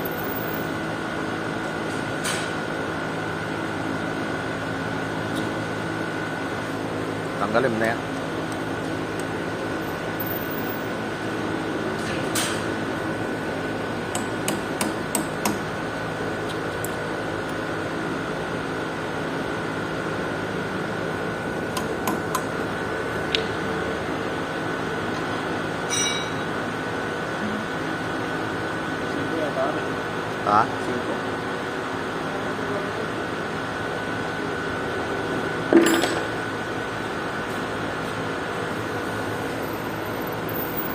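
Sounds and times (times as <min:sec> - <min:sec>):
machine hum with high whine: 0:00.0 - 0:40.9.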